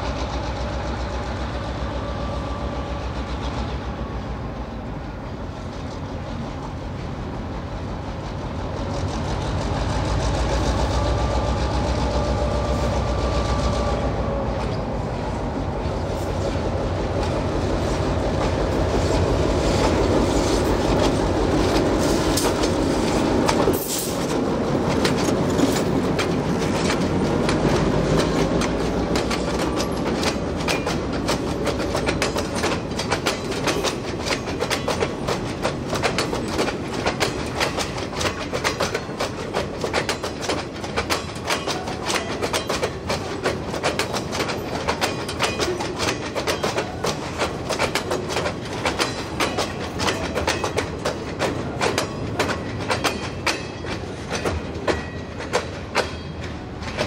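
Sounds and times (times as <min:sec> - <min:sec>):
locomotive engine rumble: 0:00.0 - 0:57.0
train wheels clickety-clack: 0:00.0 - 0:57.0.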